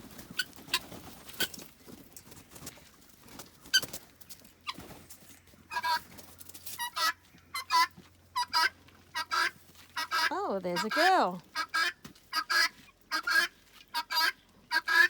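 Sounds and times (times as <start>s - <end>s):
poultry calling: 0.2s - 1.6s, 3.3s - 15.0s.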